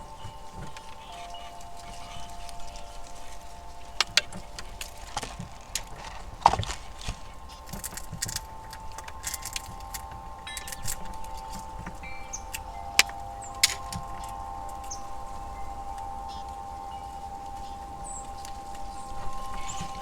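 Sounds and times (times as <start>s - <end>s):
light clicks and tinkles: 0.0s - 20.0s
metallic ringing tones: 0.0s - 20.0s.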